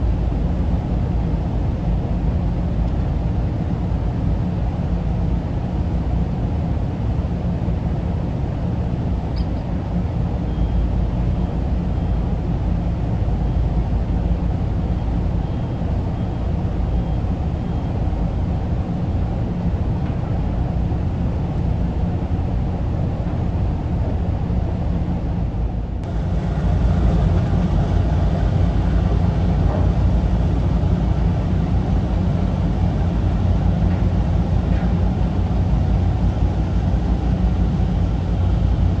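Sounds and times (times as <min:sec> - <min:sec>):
ferry engines rumbling: 0:00.0 - 0:39.0.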